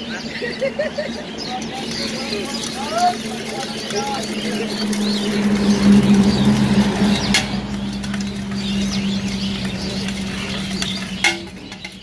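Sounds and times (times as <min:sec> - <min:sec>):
birds chirping: 0:00.0 - 0:12.0
puffed rice rattling in tin: 0:01.7 - 0:12.0.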